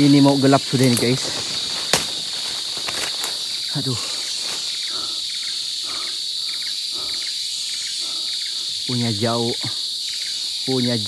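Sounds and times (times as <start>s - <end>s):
faint insect chirp: 0.0s - 11.0s
high-pitched insect drone: 0.0s - 11.0s.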